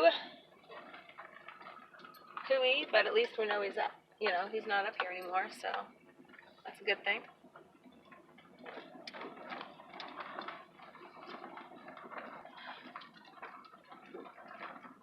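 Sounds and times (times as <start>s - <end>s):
tyres crunching on gravel: 0.0s - 15.0s.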